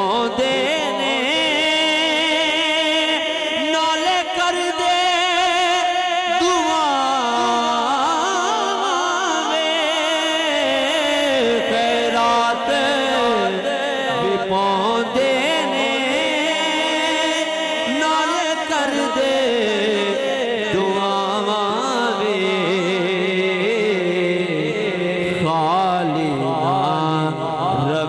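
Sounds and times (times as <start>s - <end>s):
man singing through pa: 0.0s - 28.0s.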